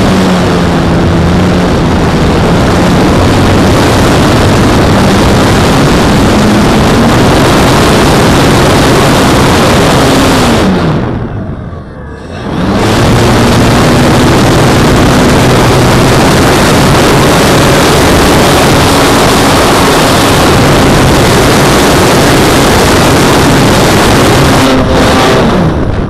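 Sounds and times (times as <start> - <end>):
model plane motor and propeller drone: 0.0 - 10.5, 12.7 - 24.6
wind rush on microphone: 0.0 - 11.6, 12.4 - 26.0.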